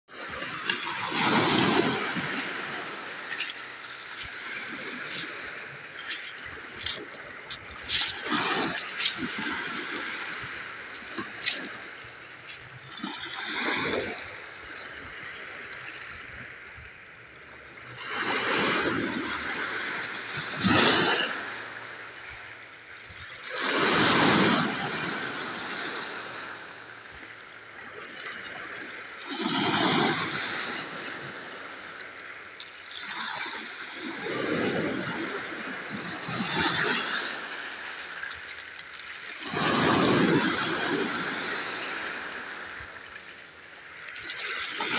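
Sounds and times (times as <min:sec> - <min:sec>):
waves washing on pebble beach: 0:00.1 - 0:44.9.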